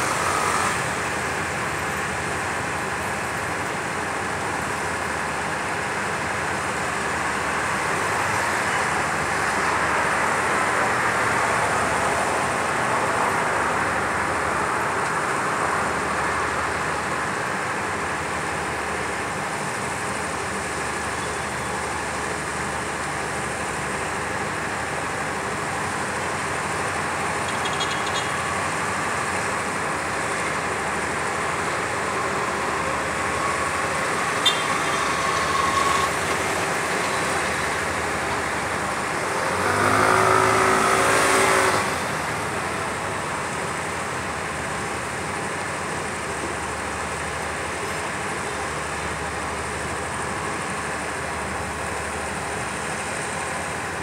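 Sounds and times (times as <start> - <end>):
distant road traffic hum: 0.0 - 54.0.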